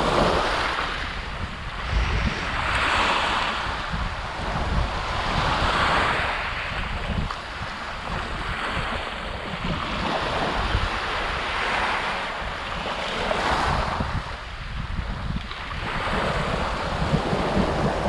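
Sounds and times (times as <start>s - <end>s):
waves washing over pebbles: 0.0s - 18.0s
wind buffeting microphone: 0.0s - 18.0s.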